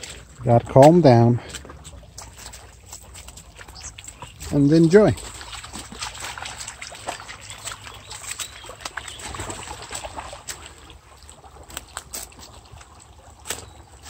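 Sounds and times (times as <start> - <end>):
brook trickling over stones: 0.0 - 14.0
dog paws splashing in water: 0.0 - 14.0
steps clicking on stones and leaves: 0.0 - 14.0.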